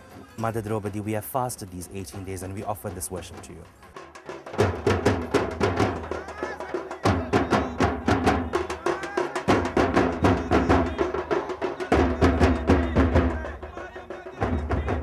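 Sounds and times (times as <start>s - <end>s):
deep low drum beats: 0.0s - 15.0s
drums in fast driving rhythm: 0.0s - 15.0s.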